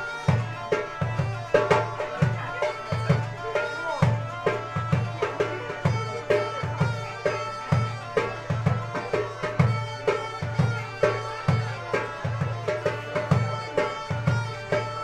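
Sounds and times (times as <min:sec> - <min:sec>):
bagpipe playing folk dance tune: 0:00.0 - 0:15.0
hand drum beating: 0:00.2 - 0:15.0.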